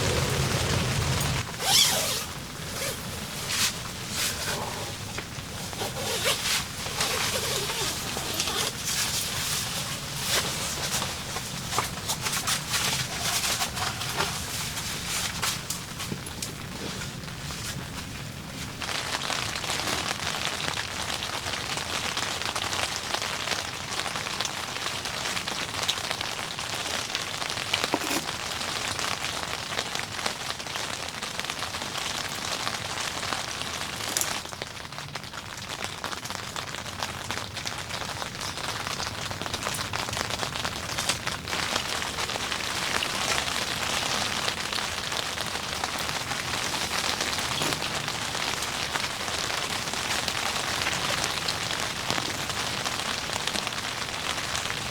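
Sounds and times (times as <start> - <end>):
rain drops falling: 0.0 - 54.9.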